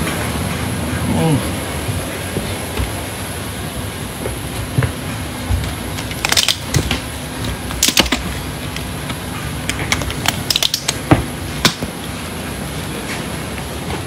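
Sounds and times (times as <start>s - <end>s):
steady background rumble: 0.0s - 14.0s.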